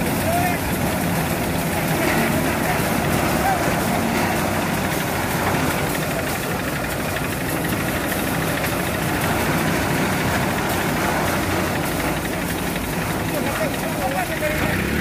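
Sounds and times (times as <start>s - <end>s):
threshing machine running: 0.0s - 15.0s.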